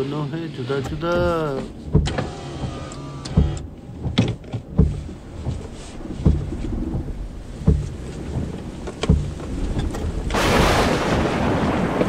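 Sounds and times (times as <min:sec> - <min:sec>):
car cabin road rumble: 0:00.0 - 0:12.0
sharp knocks and thumps: 0:00.8 - 0:12.0.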